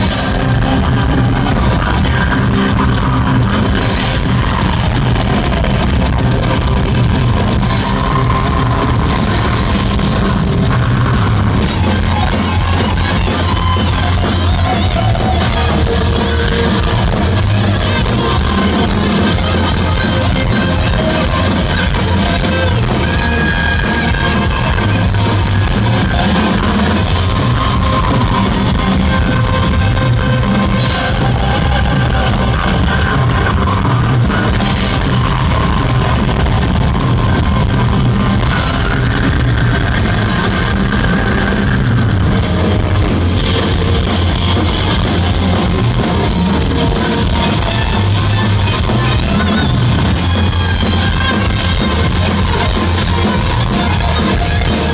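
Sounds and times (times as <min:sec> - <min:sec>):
distorted electric guitars: 0:00.0 - 0:54.9
drum kit: 0:00.0 - 0:54.9.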